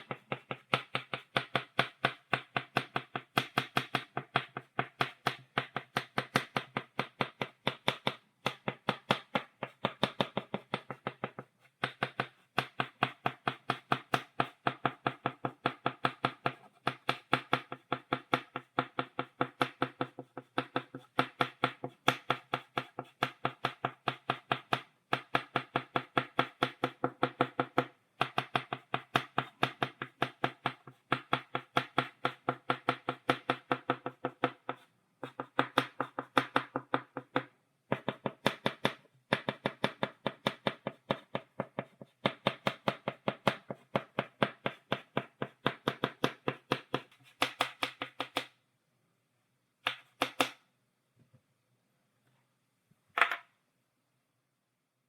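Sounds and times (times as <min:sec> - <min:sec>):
chalk tapping on a blackboard: 0:00.0 - 0:48.5.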